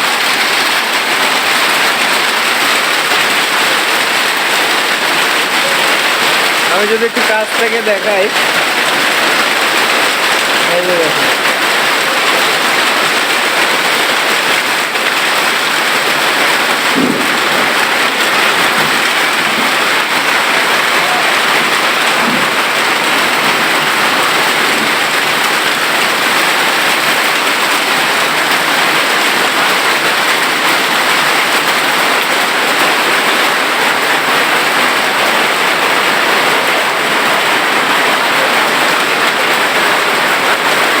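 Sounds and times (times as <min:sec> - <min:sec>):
hail and rain pelting: 0:00.0 - 0:41.0.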